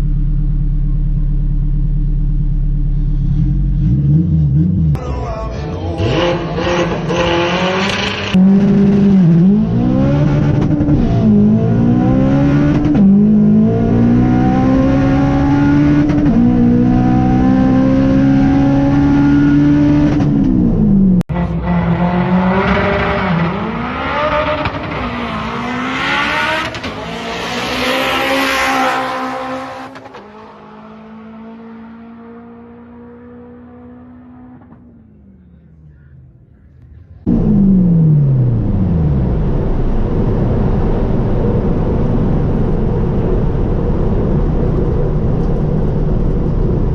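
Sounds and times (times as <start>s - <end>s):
car engine accelerating through gears: 0.7s - 5.0s, 6.0s - 46.9s.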